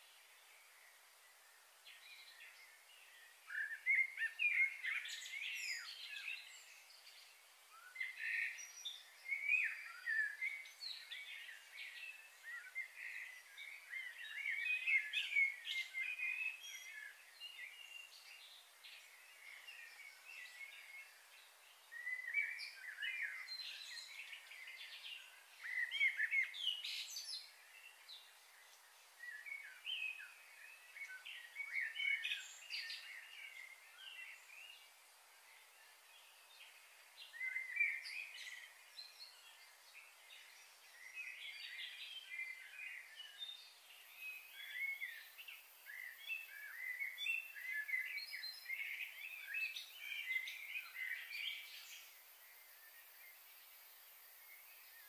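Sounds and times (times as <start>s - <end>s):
faint steady hiss: 0.0s - 55.0s
small birds chirping: 0.0s - 55.0s.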